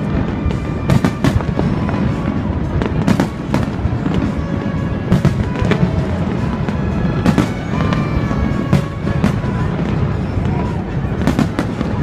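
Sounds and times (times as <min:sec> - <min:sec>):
fireworks bangs: 0:00.0 - 0:12.0
fireworks crackling: 0:00.0 - 0:12.0
low rumble of explosions: 0:00.0 - 0:12.0
music: 0:00.0 - 0:12.0.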